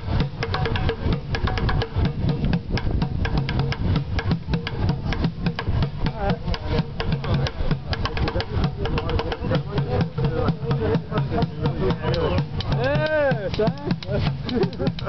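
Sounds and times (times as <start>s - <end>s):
drumming on plastic buckets: 0.0s - 15.0s.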